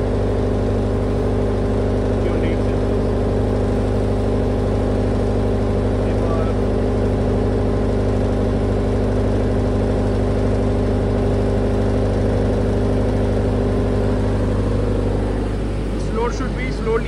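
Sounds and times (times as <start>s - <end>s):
diesel generator droning: 0.0s - 17.0s.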